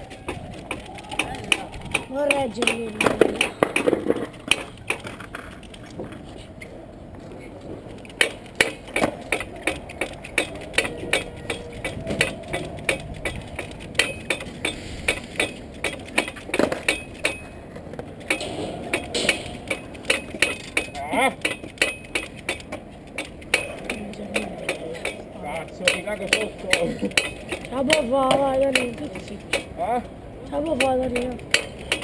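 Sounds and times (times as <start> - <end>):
bike wheel knocking on wood: 0.0 - 5.3, 8.0 - 29.7, 30.7 - 32.0.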